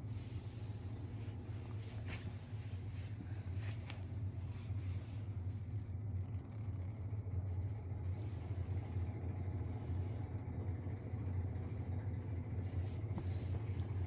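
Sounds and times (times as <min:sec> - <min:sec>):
cat purring: 0:02.6 - 0:14.0.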